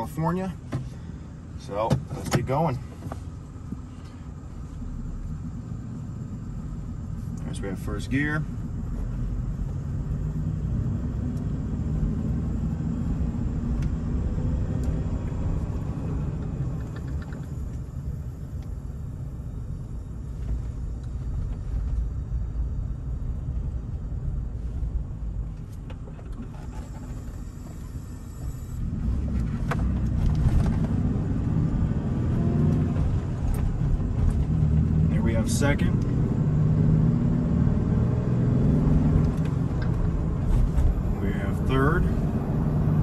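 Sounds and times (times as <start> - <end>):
pickup engine hum: 0.0 - 43.0
road rumble: 0.0 - 43.0.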